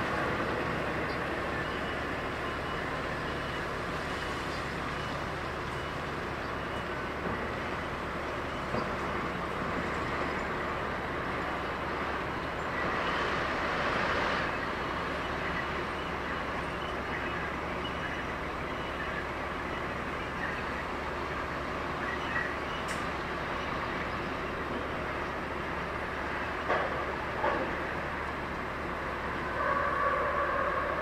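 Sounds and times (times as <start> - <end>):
vehicle running rumble and hiss: 0.0 - 31.0.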